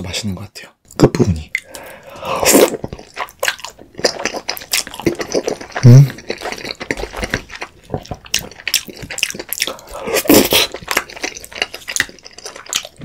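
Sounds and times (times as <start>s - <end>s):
wet chewing and lip-smacking: 1.5s - 13.0s.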